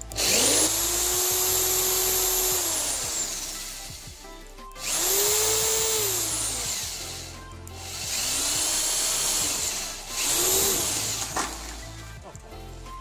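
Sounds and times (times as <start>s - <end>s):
drill bit boring through metal: 0.0s - 12.0s
electric drill motor whine: 0.0s - 12.0s.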